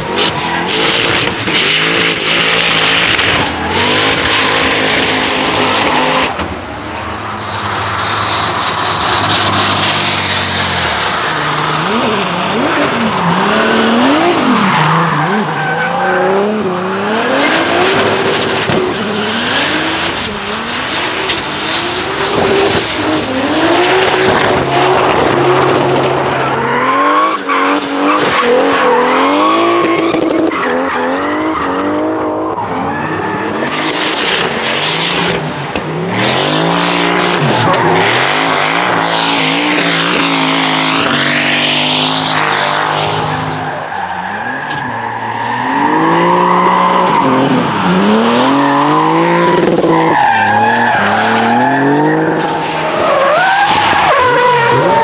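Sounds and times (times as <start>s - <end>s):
tyre squeal and skidding: 0.0s - 6.4s, 7.2s - 55.0s
car engines revving hard: 0.0s - 55.0s.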